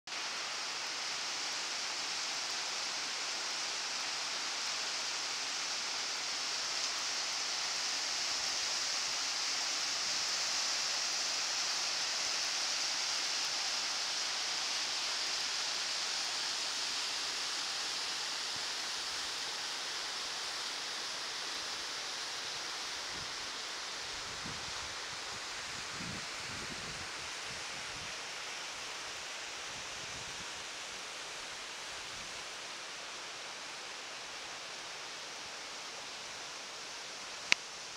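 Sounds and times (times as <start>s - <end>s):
waterfall hissing onto boulders: 0.1s - 37.9s.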